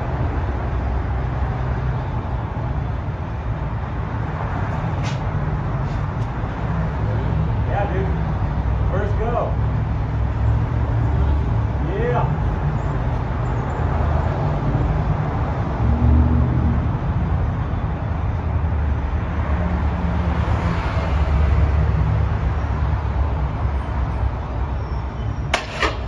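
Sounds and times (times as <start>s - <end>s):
cars passing: 0.0s - 26.0s.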